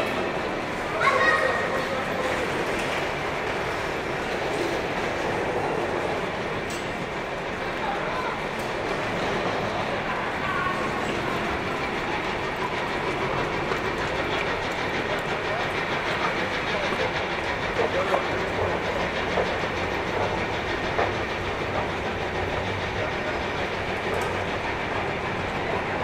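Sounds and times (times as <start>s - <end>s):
busy outdoor transit area noise: 0.0s - 26.0s.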